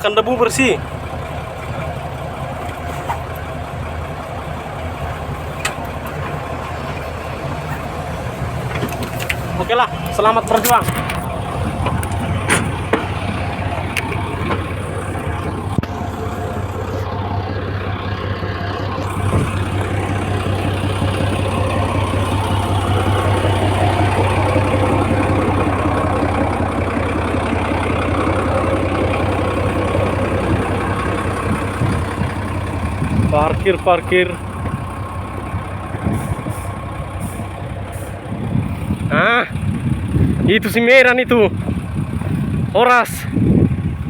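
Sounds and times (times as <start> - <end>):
bulldozer diesel engine droning: 0.0 - 44.0.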